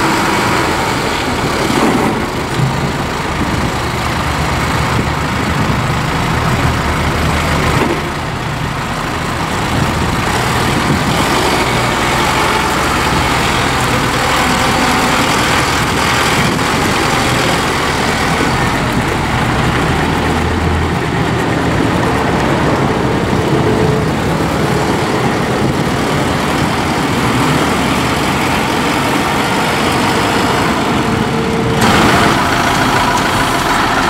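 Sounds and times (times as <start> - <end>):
close engine sound: 0.0 - 34.0
tractor diesel engine running: 0.0 - 34.0.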